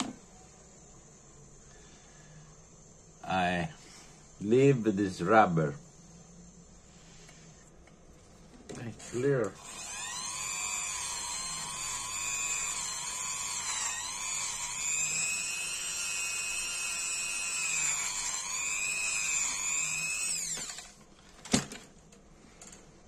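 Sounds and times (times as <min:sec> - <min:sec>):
rotary tool high whine: 0:00.0 - 0:21.1.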